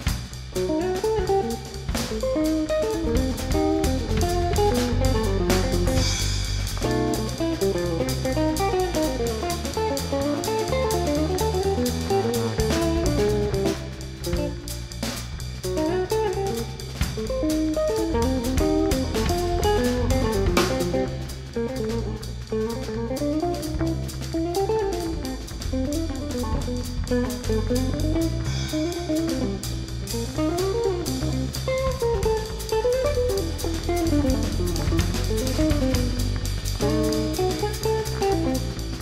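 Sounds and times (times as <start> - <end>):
instrumental background music: 0.1 - 39.0.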